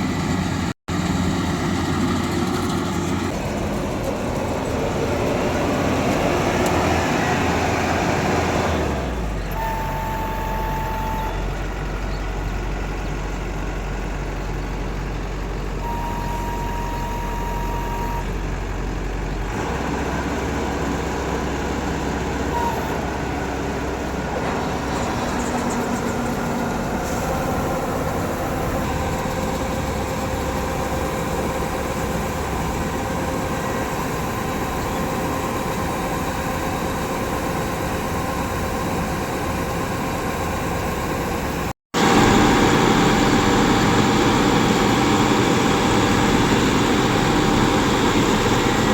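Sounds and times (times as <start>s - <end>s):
diesel engine rumble: 0.0s - 48.9s.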